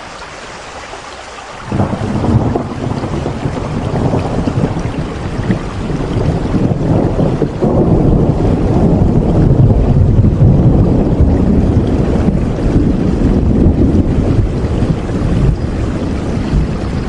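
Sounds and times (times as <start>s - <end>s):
steady rain: 0.0s - 17.0s
heavy deep rumble: 1.7s - 17.0s.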